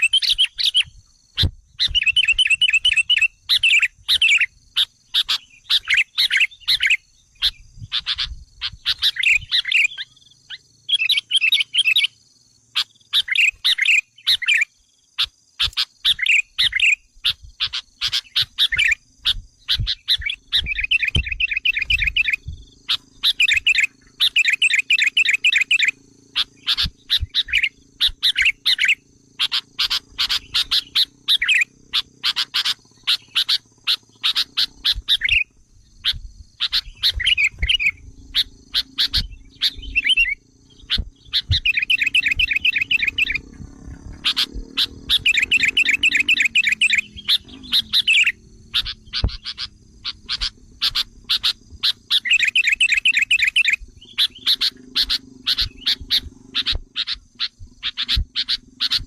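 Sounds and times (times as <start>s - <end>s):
bird chirps and chattering trills: 0.0s - 59.0s.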